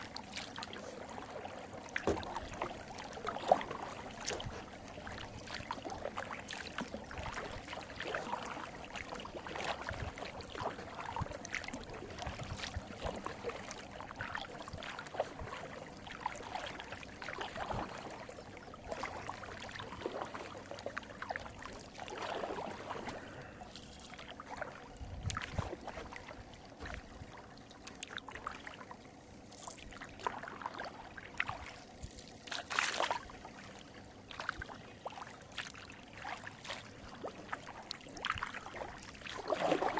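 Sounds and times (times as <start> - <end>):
paddle dipping into water: 0.0 - 39.9
water splashes: 0.0 - 39.9.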